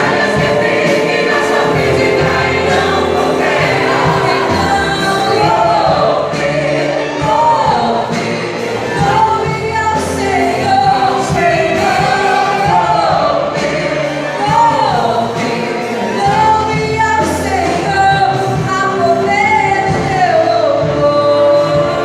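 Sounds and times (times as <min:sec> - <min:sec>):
orchestra playing: 0:00.0 - 0:22.0
voices singing a hymn: 0:00.0 - 0:22.0.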